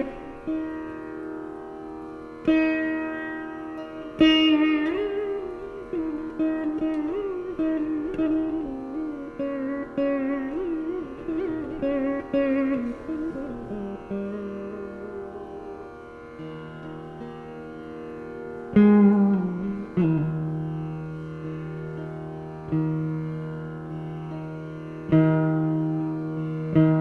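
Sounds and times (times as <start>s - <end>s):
veena playing: 0.0s - 27.0s.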